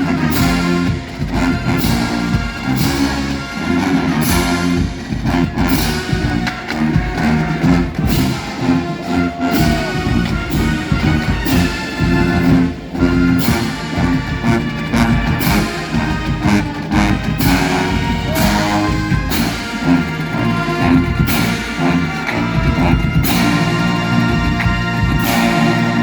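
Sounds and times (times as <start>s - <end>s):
brass holding chords: 0.0s - 26.0s
drums: 0.0s - 26.0s.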